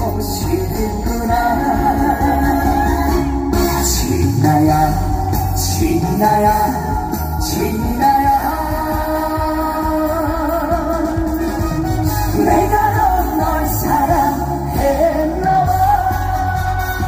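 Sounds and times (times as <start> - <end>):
amplified band music: 0.0 - 17.0
man singing with vibrato: 0.0 - 17.0.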